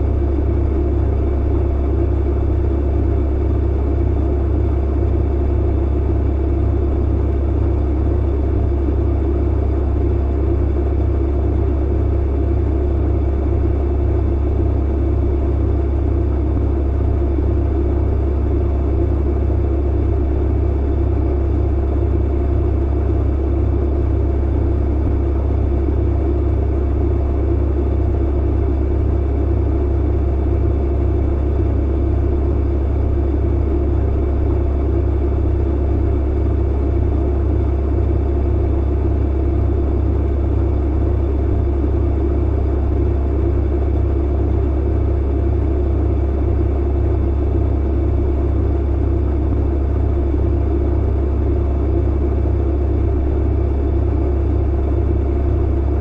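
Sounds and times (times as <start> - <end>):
clothes dryer humming and rumbling: 0.0 - 56.0.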